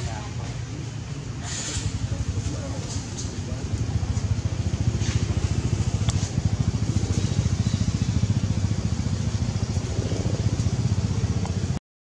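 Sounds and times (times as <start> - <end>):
engine idling: 0.0 - 11.8.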